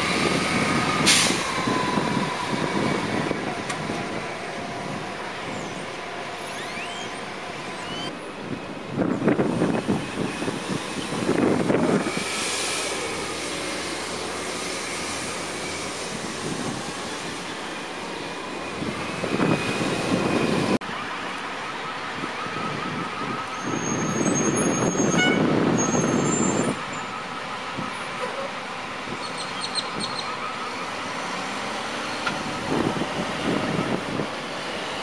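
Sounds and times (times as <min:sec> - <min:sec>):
bus engine pulling away: 0:00.0 - 0:35.0
outdoor traffic noise: 0:00.0 - 0:35.0.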